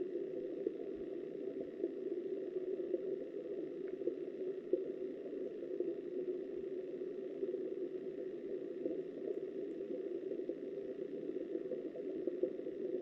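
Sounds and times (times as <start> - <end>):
faint ticks: 0.0 - 13.0.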